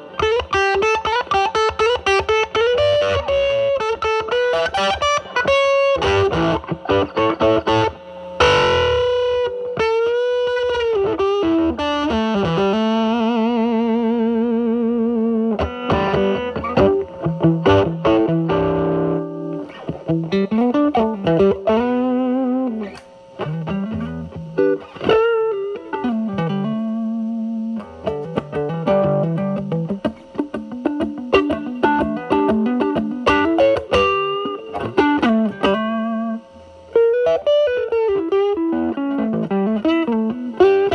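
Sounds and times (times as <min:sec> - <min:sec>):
fuzz electric guitar playing blues: 0:00.0 - 0:40.9.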